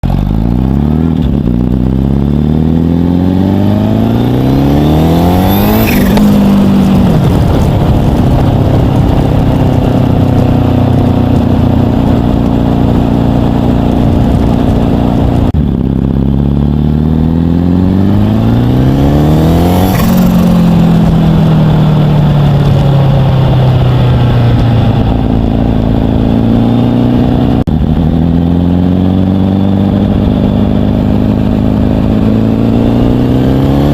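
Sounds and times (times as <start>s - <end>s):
turbocharged engine revving: 0.0s - 33.9s.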